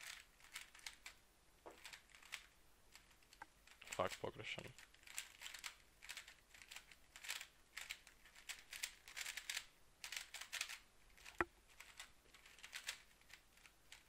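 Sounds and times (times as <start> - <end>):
puzzle cube plastic clacking: 0.0 - 14.0.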